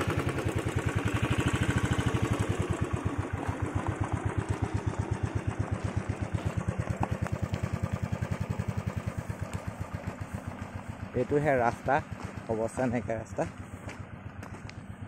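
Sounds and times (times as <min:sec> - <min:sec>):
motorcycle engine at low speed: 0:00.0 - 0:15.0.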